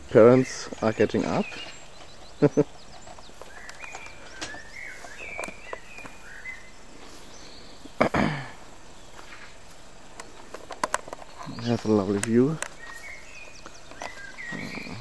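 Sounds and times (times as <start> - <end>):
birds chirping and singing: 0.0 - 15.0
outdoor background hiss: 0.0 - 15.0.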